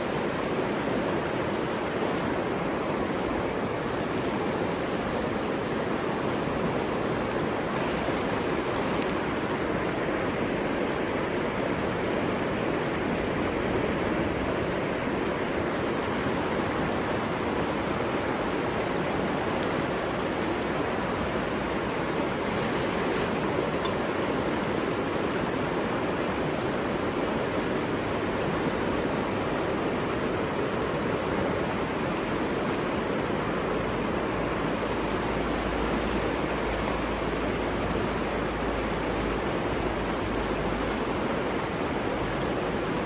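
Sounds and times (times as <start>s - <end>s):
river flowing over rocks: 0.0s - 43.0s.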